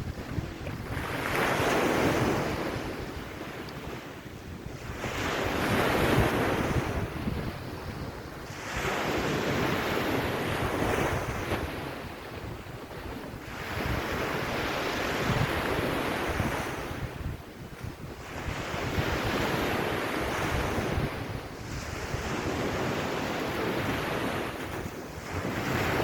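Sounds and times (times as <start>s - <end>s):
sea waves washing onto beach: 0.0s - 26.0s
wind buffeting microphone: 0.0s - 26.0s.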